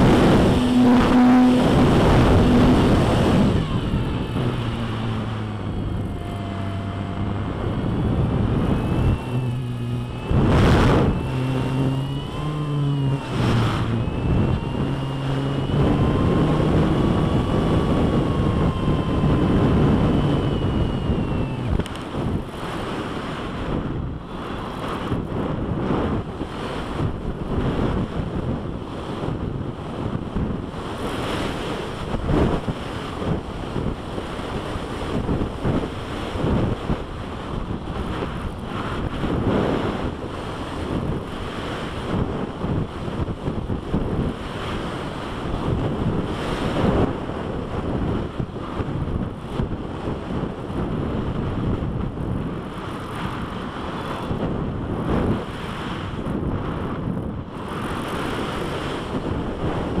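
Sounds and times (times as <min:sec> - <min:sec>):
wind rushing over microphone: 0:00.0 - 1:00.0.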